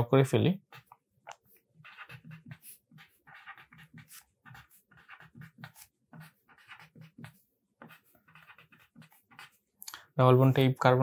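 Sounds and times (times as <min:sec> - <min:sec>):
pen scratching on paper: 0:00.6 - 0:09.8.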